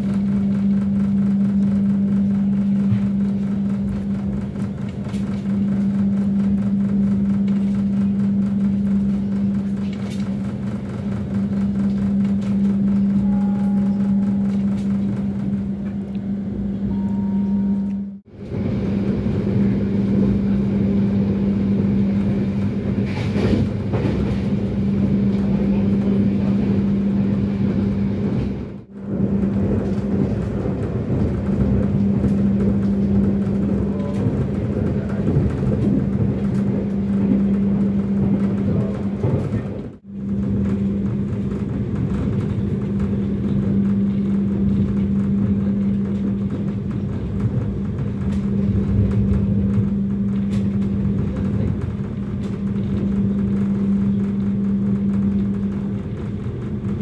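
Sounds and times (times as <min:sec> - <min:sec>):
constant low hum: 0:00.0 - 0:57.0
train rumbling: 0:00.0 - 0:57.0.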